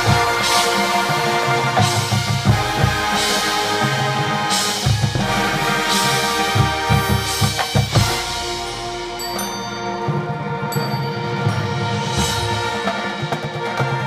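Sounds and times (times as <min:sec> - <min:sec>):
marching band playing: 0:00.0 - 0:14.0
cymbal crashes: 0:01.8 - 0:13.2.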